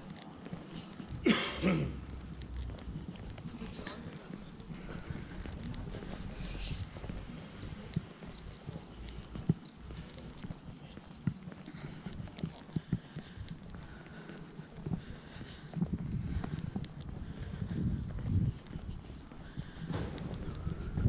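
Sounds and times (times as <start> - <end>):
footsteps on stone paving: 0.0 - 21.0
birds chirping: 0.7 - 21.0.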